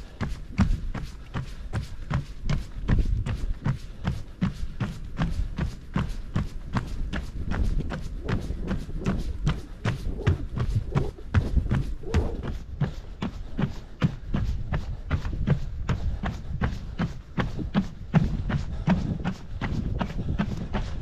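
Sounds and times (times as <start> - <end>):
running footsteps on boardwalk: 0.0 - 21.0.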